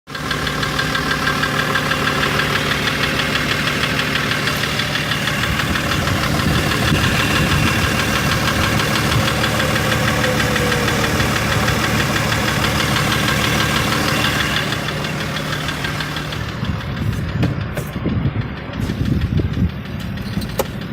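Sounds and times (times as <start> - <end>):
diesel engine knocking: 0.1 - 20.9.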